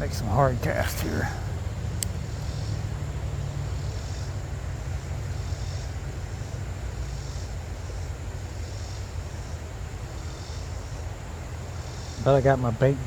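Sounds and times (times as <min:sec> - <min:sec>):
high insect call: 0:00.0 - 0:13.0
low outdoor rumble: 0:00.0 - 0:13.0.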